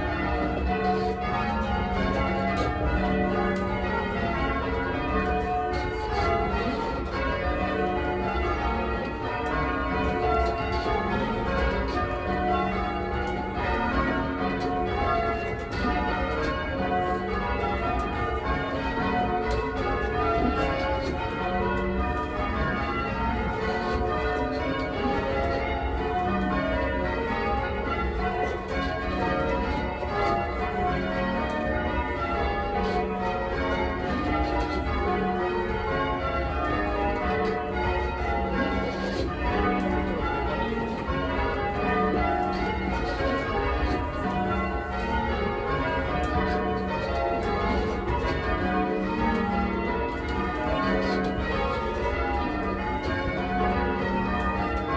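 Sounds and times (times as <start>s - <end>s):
church bells change ringing: 0.0s - 54.9s.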